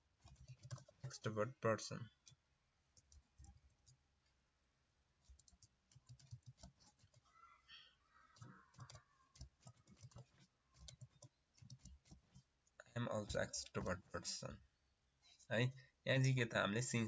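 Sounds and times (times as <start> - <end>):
faint keyboard typing: 0.0 - 4.4, 5.2 - 14.6.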